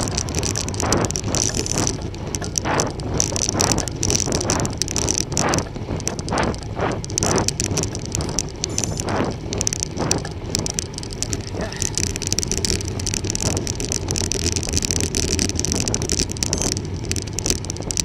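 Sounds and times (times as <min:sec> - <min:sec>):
bicycle tyre noise: 0:00.0 - 0:18.0
wind on microphone: 0:00.0 - 0:18.0.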